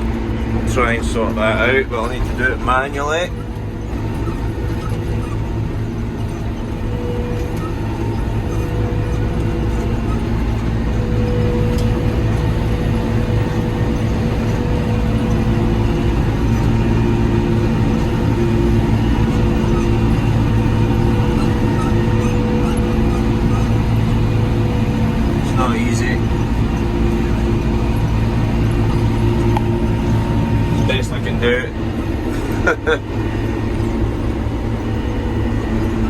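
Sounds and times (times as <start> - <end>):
mowing machine engine drone: 0.0 - 36.0.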